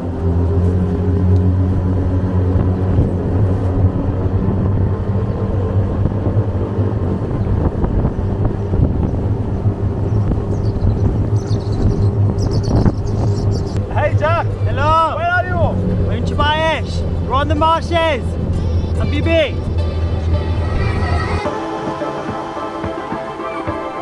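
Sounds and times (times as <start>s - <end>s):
motorboat engine running: 0.0s - 24.0s
water rushing along hull: 0.0s - 24.0s.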